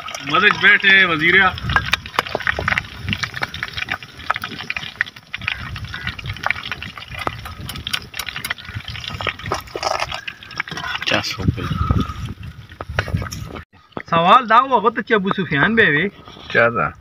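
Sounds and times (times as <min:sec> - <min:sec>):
fish deep-frying in oil: 0:00.0 - 0:13.6.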